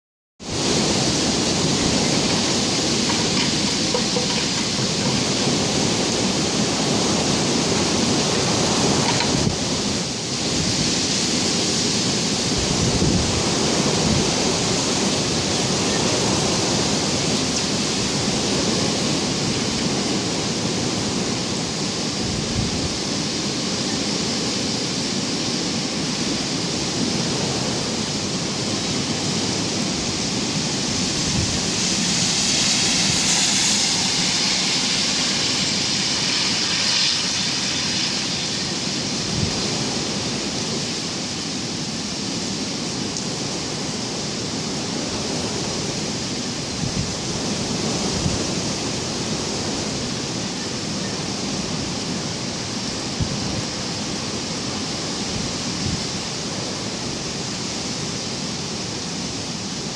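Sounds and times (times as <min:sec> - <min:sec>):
gusts buffeting microphone: 0:00.4 - 0:59.9
storm wind blowing: 0:00.4 - 0:59.9.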